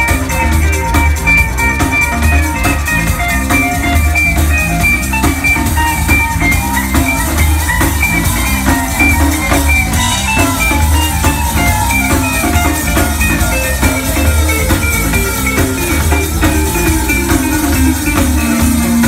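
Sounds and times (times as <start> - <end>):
drum kit: 0.0 - 19.0
electric bass guitar: 0.0 - 19.0.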